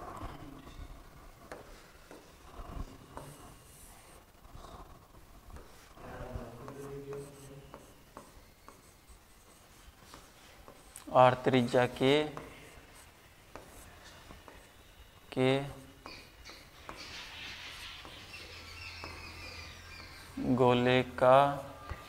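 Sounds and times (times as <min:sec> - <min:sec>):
pen scratching on board: 0:01.4 - 0:14.9, 0:15.7 - 0:20.4.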